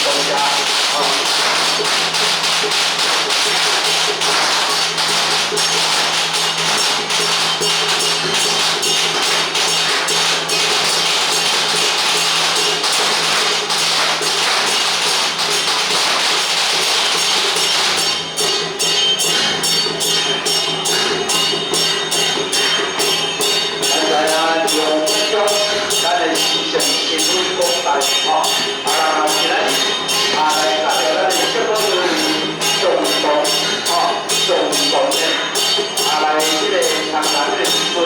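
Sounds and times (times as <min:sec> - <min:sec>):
cymbals and gongs clashing: 0:00.0 - 0:38.0.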